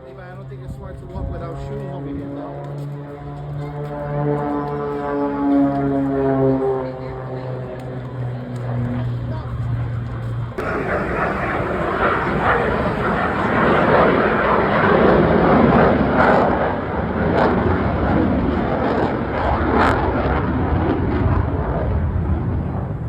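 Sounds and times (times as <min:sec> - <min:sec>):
airplane flying past: 0:00.0 - 0:23.0.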